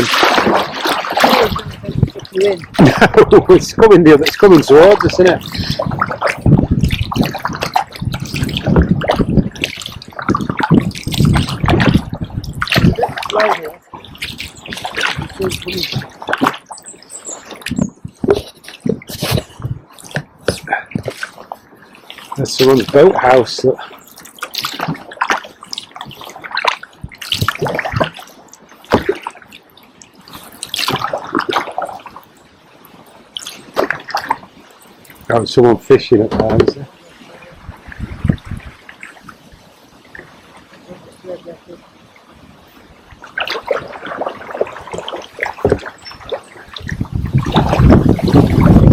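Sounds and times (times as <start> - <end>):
water dripping off paddle: 0.0 - 3.4, 4.0 - 35.6, 43.1 - 48.8
paddle splashing in water: 0.0 - 48.9.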